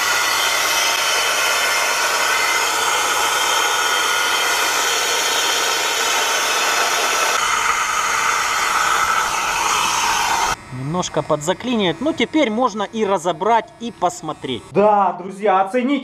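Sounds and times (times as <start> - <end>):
turbine air rush with whine: 0.0 - 14.9.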